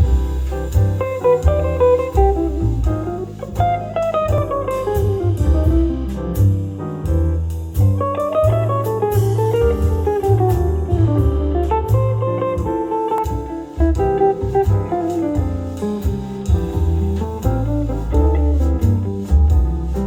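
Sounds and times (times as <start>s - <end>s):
instrumental music from speaker: 0.0s - 20.0s.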